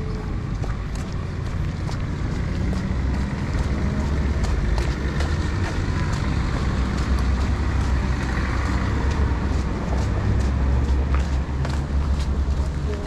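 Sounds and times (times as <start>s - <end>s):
low engine rumble of traffic: 0.0s - 13.0s
passing traffic: 0.0s - 13.0s.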